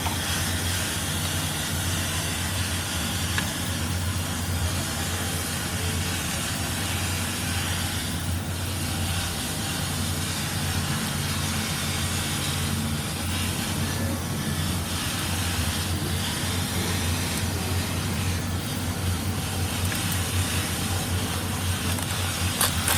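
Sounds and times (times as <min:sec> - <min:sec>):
machine hiss: 0:00.0 - 0:22.9
machine humming: 0:00.0 - 0:22.9.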